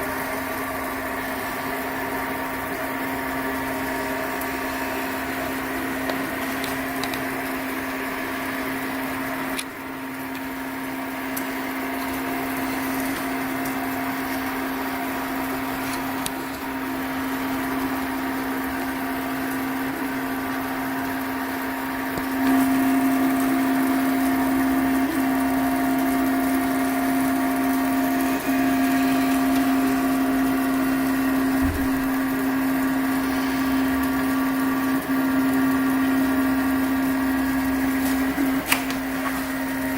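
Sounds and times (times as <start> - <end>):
printer motors whining: 0.0 - 39.9.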